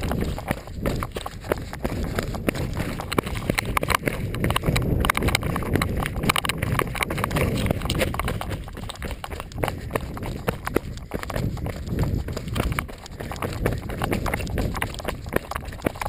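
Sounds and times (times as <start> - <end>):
running footsteps on stony trail: 0.0 - 16.0
wind rumble: 0.0 - 16.0.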